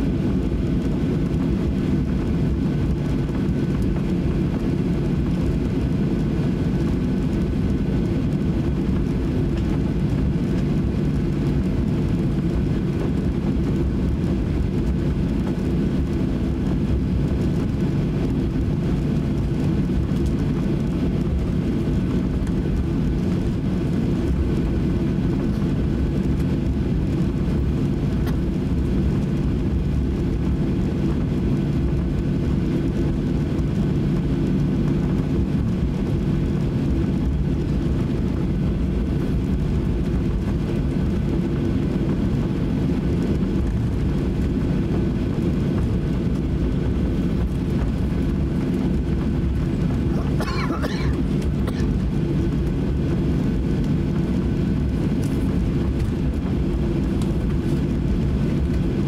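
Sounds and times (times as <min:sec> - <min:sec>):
airplane cabin rumble: 0:00.0 - 0:59.0
faint jet engine whine: 0:00.0 - 0:59.0.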